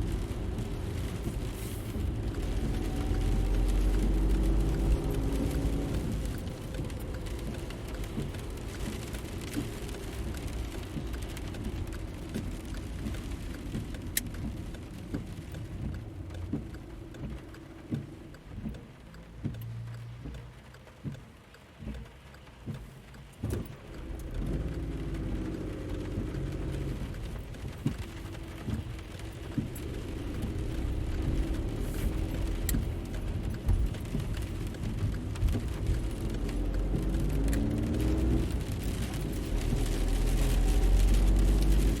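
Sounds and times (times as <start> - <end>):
car engine rumbling: 0.0 - 42.0.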